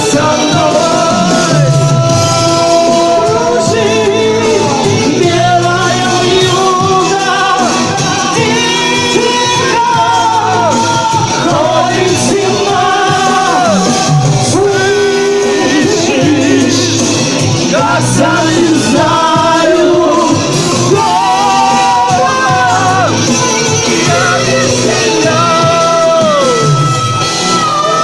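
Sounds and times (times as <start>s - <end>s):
gliding melodic lead line: 0.0s - 28.0s
live band playing pop-rock ballad: 0.0s - 28.0s.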